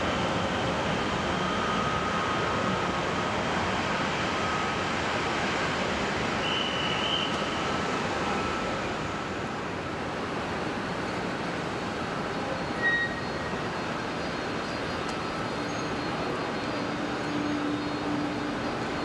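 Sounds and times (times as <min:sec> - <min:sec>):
jet engines rushing: 0:00.0 - 0:19.0
low jet engine whine: 0:00.0 - 0:19.0.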